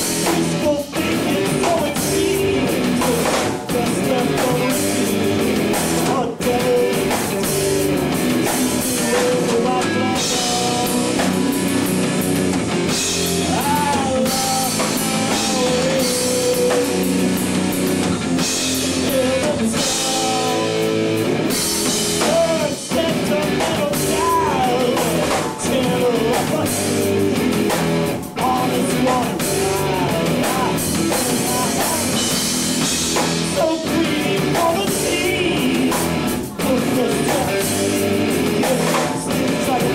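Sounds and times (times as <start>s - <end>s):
rock song with singing: 0.0s - 39.9s.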